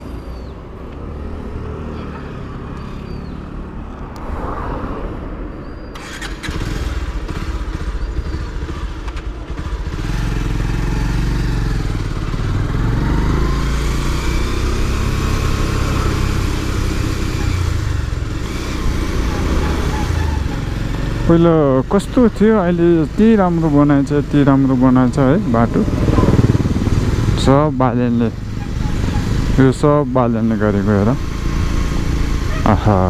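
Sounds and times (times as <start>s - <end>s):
motorcycle engine running: 6.0s - 33.0s.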